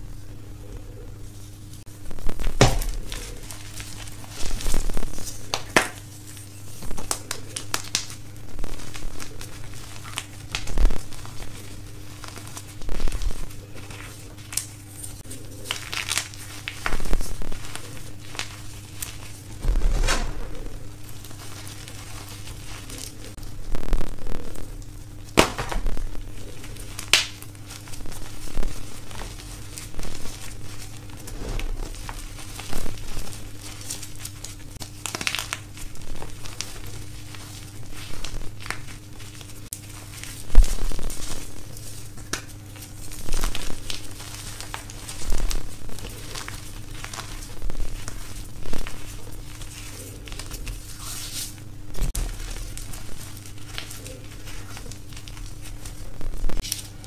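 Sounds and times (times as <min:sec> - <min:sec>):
chalk crumbling in hands: 0:02.4 - 0:19.8, 0:24.4 - 0:57.0.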